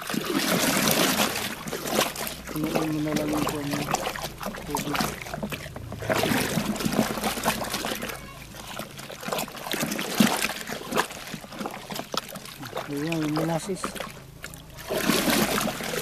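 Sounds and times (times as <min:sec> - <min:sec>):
hand sloshing liquid in basin: 0:00.0 - 0:16.0.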